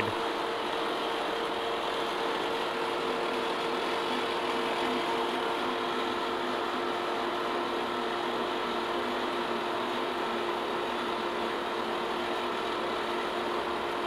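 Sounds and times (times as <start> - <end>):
boring mill machine hum: 0.0 - 14.0.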